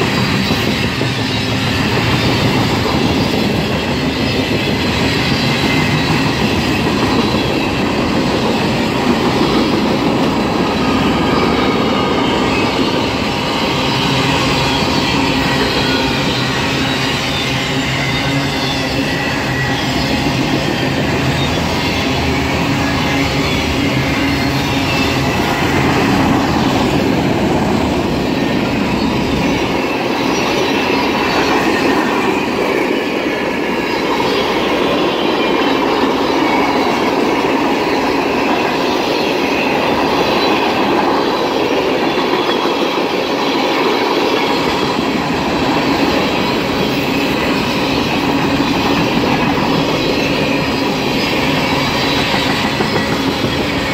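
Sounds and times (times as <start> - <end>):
train wheels on rails: 0.0 - 53.9.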